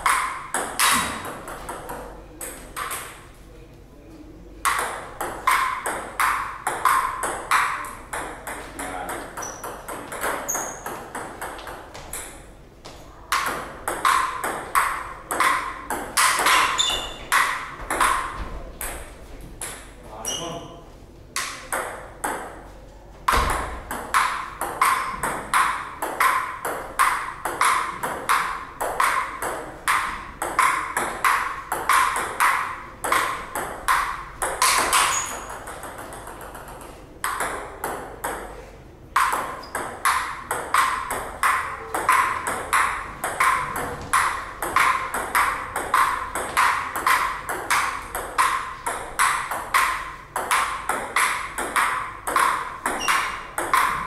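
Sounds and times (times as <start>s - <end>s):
table tennis ball clicking: 4.6s - 12.4s, 13.3s - 19.9s, 23.3s - 38.4s, 39.2s - 54.0s.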